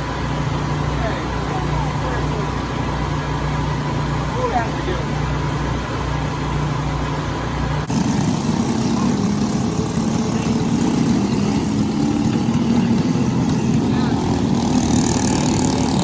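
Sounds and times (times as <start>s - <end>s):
kart engines running: 0.0s - 16.0s.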